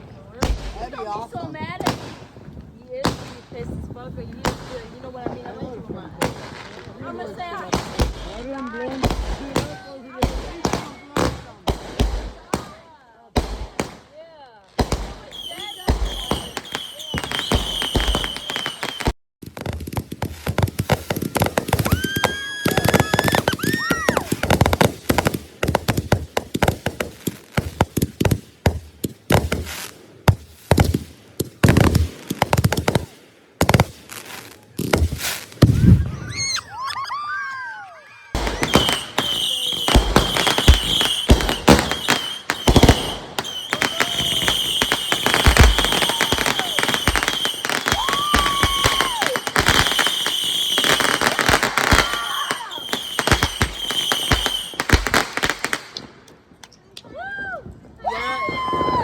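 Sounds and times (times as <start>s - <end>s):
fireworks bangs and crackling: 0.0s - 57.0s, 57.6s - 59.0s
fireworks whistles: 6.2s - 12.8s, 14.8s - 56.1s.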